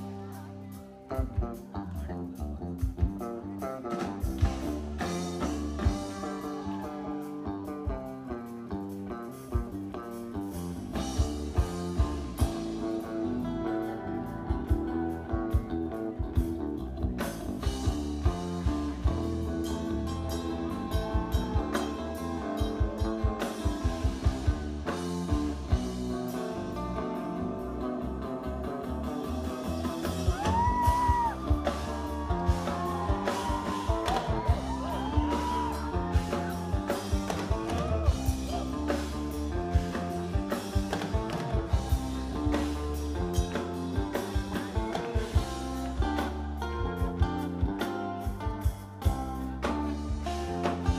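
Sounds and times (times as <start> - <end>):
bass guitar: 0.0 - 50.9
drum kit beats: 0.0 - 50.9
fusion rock band playing: 0.0 - 50.9
guitar: 0.0 - 50.9.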